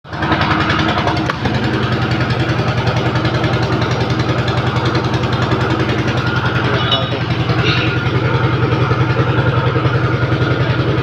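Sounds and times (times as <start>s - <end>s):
small engine running: 0.1s - 11.0s.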